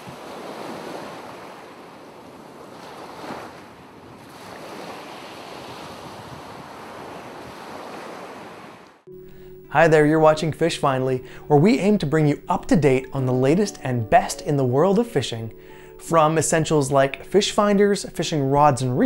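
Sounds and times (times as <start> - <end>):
ocean waves washing: 0.0 - 19.0.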